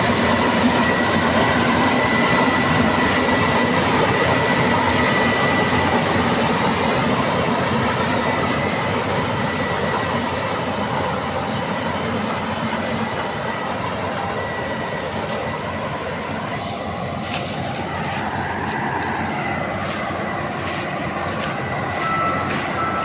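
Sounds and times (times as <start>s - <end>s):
combine harvester engine running: 0.0s - 23.0s
thin high whine: 0.0s - 23.0s.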